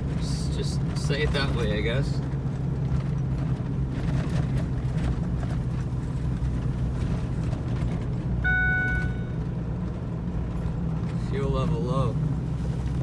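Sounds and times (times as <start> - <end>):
engine running low drone: 0.0 - 13.0.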